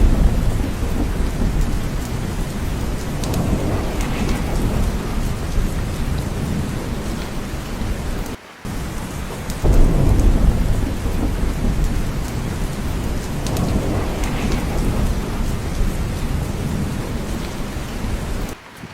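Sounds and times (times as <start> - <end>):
low rumble of thunder: 0.0 - 18.6
steady rain: 0.0 - 18.9.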